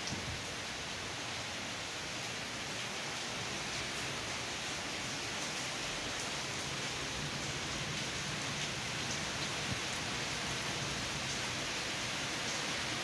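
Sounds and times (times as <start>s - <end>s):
rain falling in strong wind: 0.0s - 13.0s.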